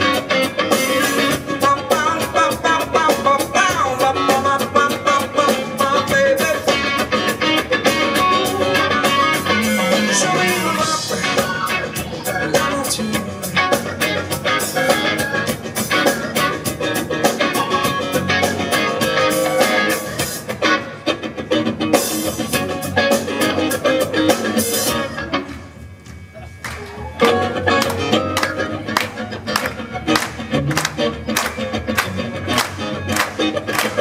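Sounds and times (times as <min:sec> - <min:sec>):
drum kit beat: 0:00.0 - 0:34.0
electric and acoustic guitars: 0:00.0 - 0:34.0.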